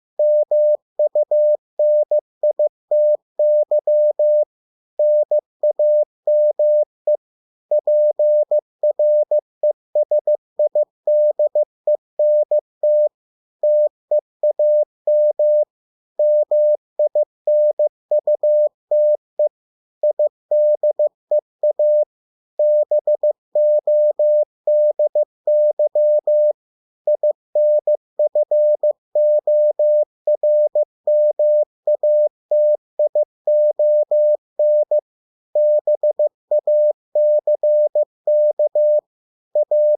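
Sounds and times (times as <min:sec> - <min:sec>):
morse code beeps: 0:00.2 - 0:22.0, 0:22.6 - 0:26.5, 0:27.1 - 0:35.0, 0:35.6 - 0:39.0, 0:39.6 - 0:39.9.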